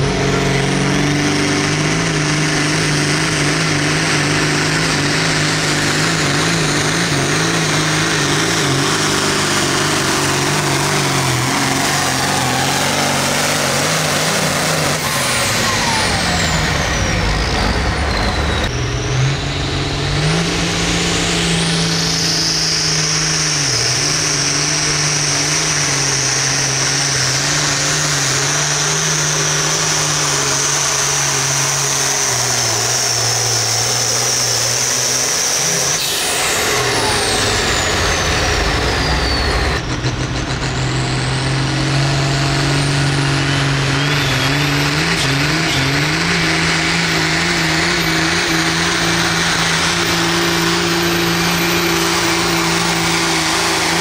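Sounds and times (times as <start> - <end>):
tractor engines at full throttle: 0.0 - 54.0.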